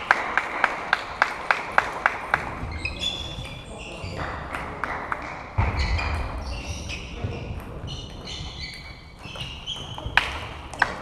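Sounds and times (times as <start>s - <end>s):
voices in hall: 0.0s - 11.0s.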